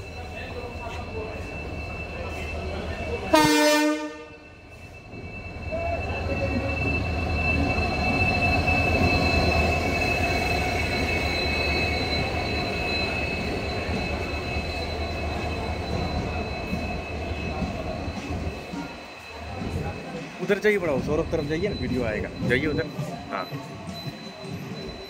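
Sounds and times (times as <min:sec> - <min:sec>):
diesel locomotive engine rumble: 0:00.0 - 0:25.0
train wheels rolling: 0:00.1 - 0:25.0.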